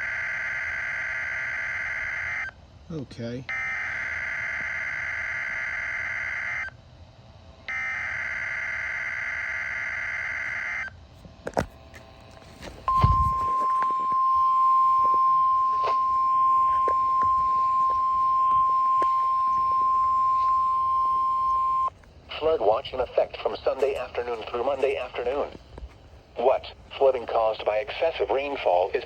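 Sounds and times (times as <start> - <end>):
steady warning alarm tone: 0.0 - 2.6, 3.4 - 6.8, 7.6 - 11.0, 12.6 - 29.0.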